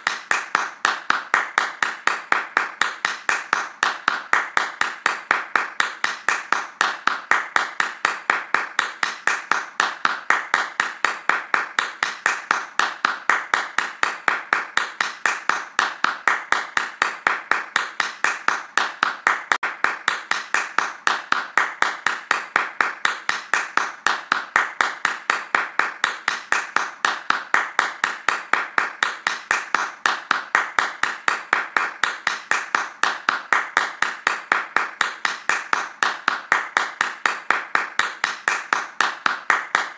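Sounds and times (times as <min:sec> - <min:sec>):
hands clapping fast: 0:00.0 - 0:39.9.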